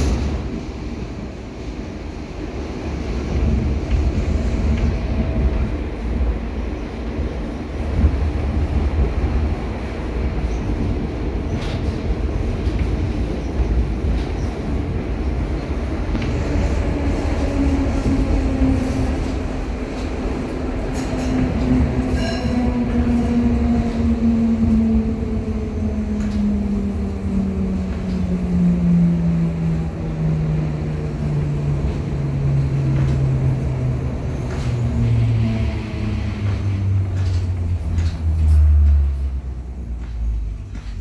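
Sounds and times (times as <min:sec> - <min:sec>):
wheels rumbling on rails: 0:00.0 - 0:41.0.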